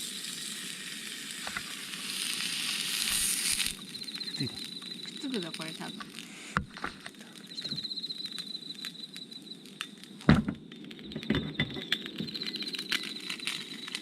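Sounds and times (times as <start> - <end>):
bacon frying in a pan: 0.0 - 6.4, 7.2 - 14.0
campfire crackling and popping: 0.0 - 14.0.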